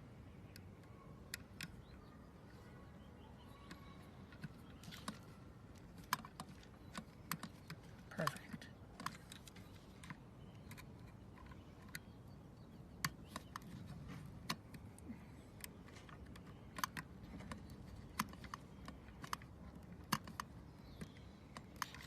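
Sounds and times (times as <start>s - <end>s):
lock parts clicking and tapping: 0.4s - 2.2s, 3.4s - 22.0s.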